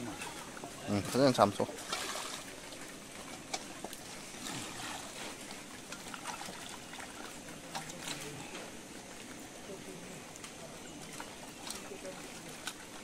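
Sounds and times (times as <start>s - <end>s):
water sloshing in metal basin: 0.0s - 9.5s, 10.2s - 13.0s
small water splashes: 0.0s - 13.0s.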